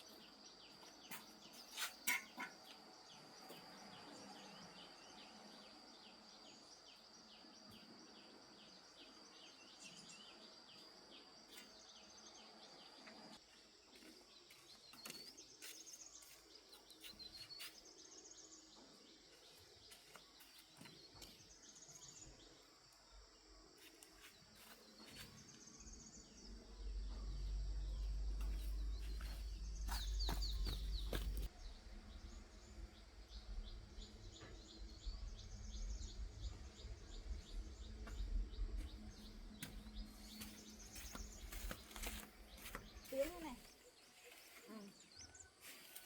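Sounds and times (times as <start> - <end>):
birds chirping in trills: 0.0 - 22.7, 24.2 - 46.0.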